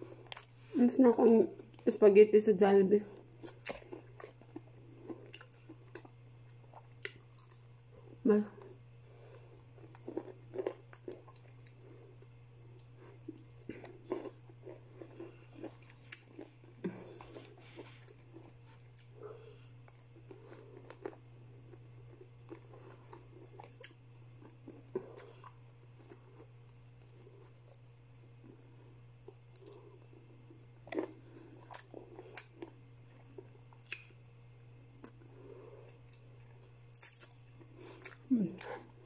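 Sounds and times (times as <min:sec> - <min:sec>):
person chewing: 0:00.0 - 0:00.8, 0:03.2 - 0:34.2, 0:35.0 - 0:39.0.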